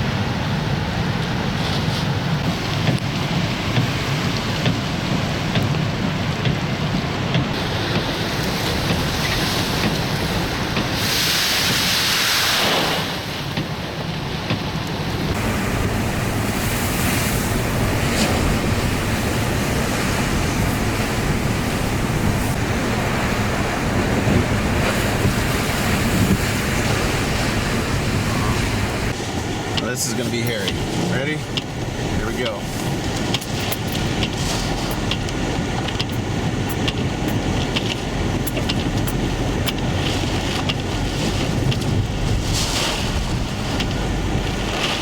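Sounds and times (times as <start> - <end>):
waves breaking: 0.0 - 45.0
wind buffeting microphone: 0.0 - 45.0.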